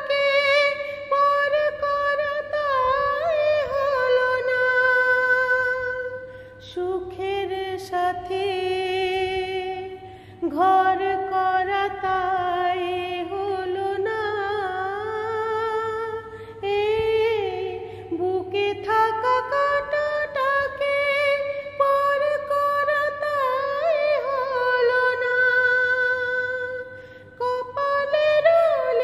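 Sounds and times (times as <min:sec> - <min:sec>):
woman singing: 0:00.0 - 0:29.0.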